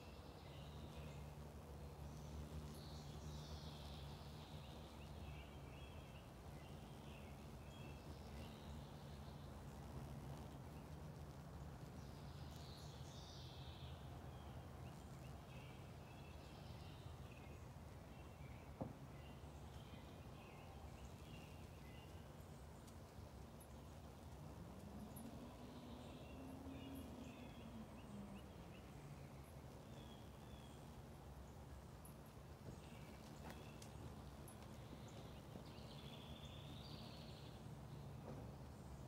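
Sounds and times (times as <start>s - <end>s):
low steady hum: 0.0s - 39.0s
songbird singing: 0.0s - 39.0s.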